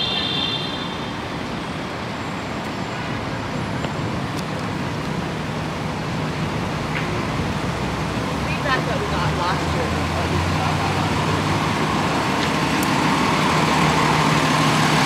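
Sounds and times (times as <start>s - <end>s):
city street traffic: 0.0s - 15.0s.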